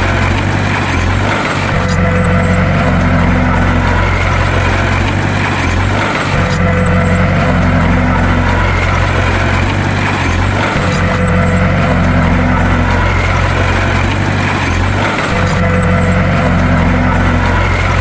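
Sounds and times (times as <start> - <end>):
bulldozer diesel engine drone: 0.0 - 18.0.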